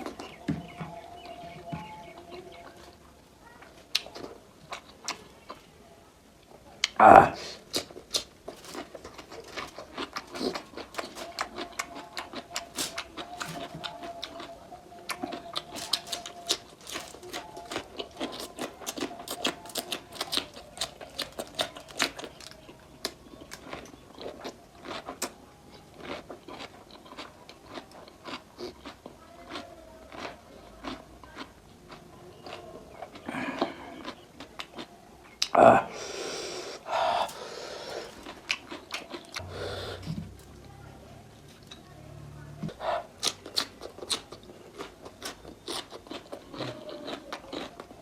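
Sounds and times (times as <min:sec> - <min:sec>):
wet chewing: 0:03.6 - 0:05.7, 0:06.8 - 0:40.6, 0:42.7 - 0:48.0.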